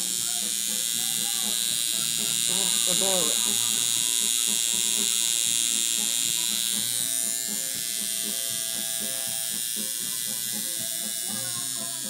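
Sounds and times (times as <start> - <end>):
tattoo machine buzzing: 0.0 - 12.0.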